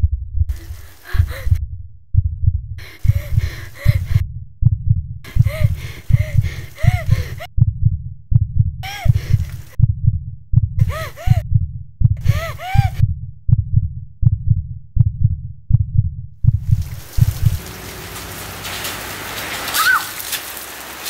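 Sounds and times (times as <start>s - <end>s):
heartbeat double thump: 0.0s - 17.6s.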